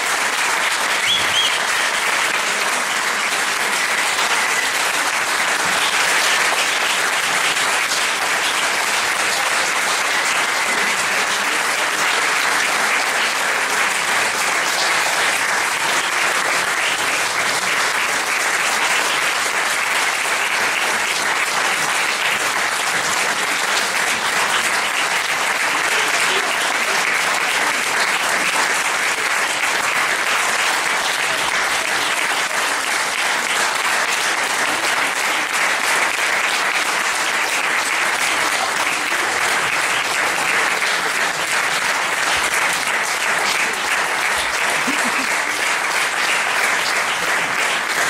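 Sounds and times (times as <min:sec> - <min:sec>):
audience applauding: 0:00.0 - 0:48.0.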